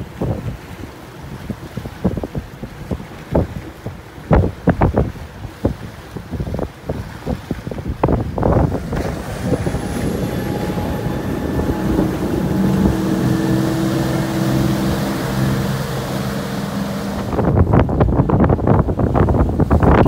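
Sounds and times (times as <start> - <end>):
boat engine humming: 0.0 - 20.0
rushing water: 0.0 - 20.0
wind noise: 0.0 - 20.0.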